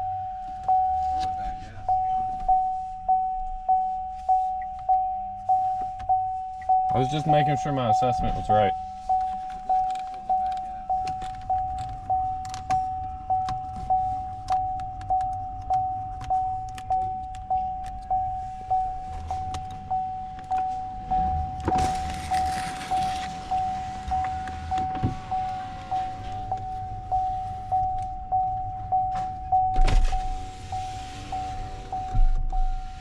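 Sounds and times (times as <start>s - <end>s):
dashboard warning chime: 0.0s - 33.0s.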